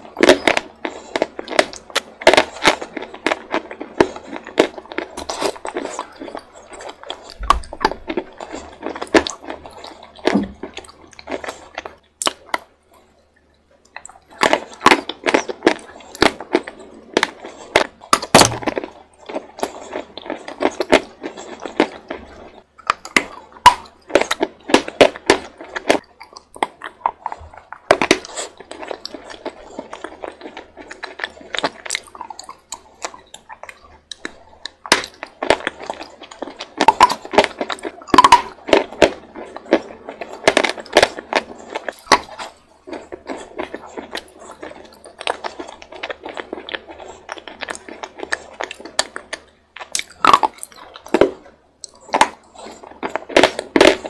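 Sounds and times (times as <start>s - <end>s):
crunching hard chalk: 0.0s - 12.7s, 14.0s - 54.0s.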